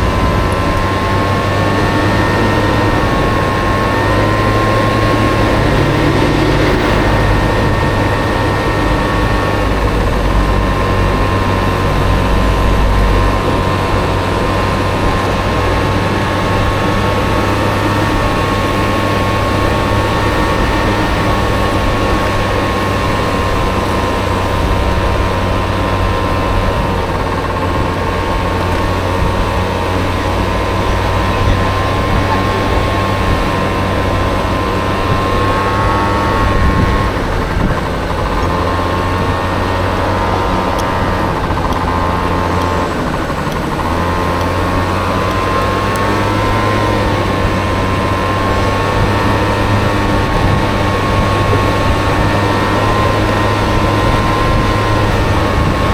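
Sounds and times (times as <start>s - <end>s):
scooter engine droning with whine: 0.0s - 55.9s.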